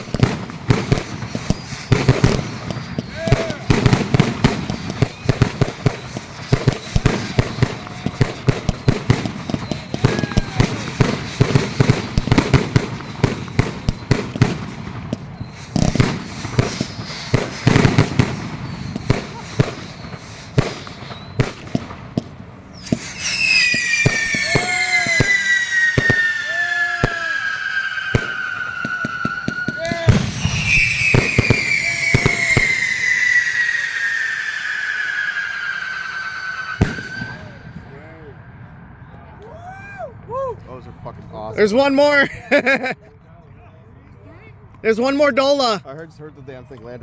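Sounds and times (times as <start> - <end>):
fireworks banging: 0.0 - 39.0, 41.6 - 42.9.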